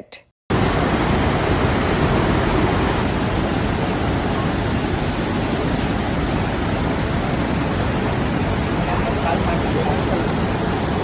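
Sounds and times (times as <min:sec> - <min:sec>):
waterfall rushing water: 0:00.5 - 0:11.0.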